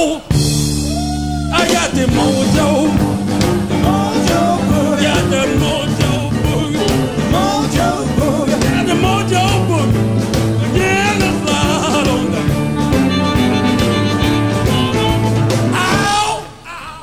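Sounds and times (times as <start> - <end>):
bass: 0.0 - 17.0
drum beat: 0.3 - 16.4
bending lead guitar line: 0.7 - 16.0.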